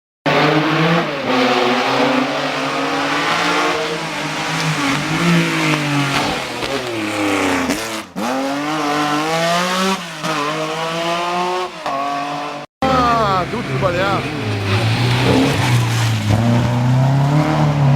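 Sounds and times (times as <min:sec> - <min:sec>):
rally car engine revving: 0:00.3 - 0:17.9.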